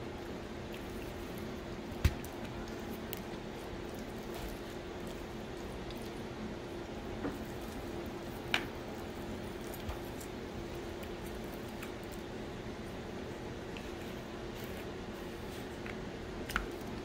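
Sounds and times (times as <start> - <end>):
chewing and wet mouth sounds: 0.0 - 17.0
steady low hum: 0.0 - 17.0.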